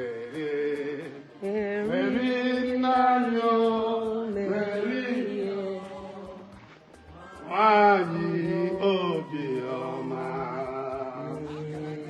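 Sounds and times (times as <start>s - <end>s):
light ticking beat: 0.0s - 12.0s
person chanting worship song: 0.0s - 12.0s.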